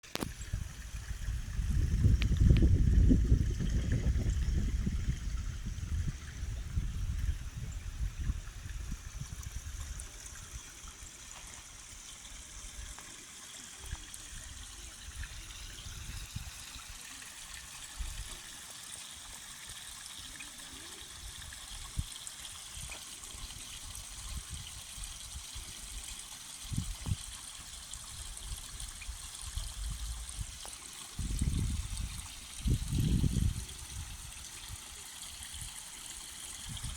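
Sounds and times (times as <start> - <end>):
trickle of running water: 0.0 - 36.9.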